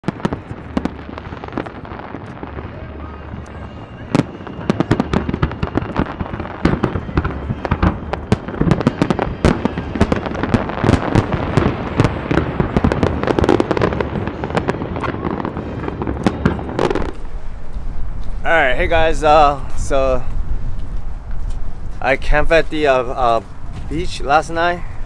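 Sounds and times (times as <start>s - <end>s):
fireworks bangs and crackles: 0.0s - 25.0s
steady low rumble: 0.0s - 25.0s.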